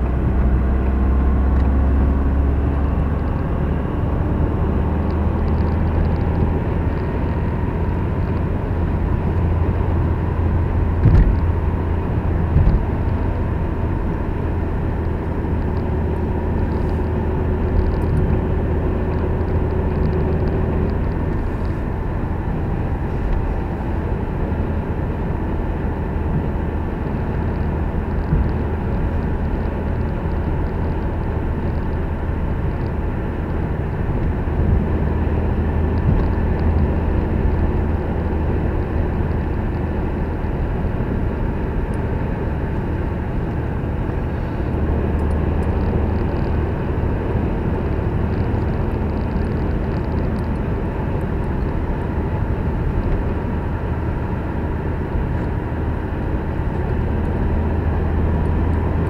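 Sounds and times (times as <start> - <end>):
car interior road noise: 0.0 - 59.0.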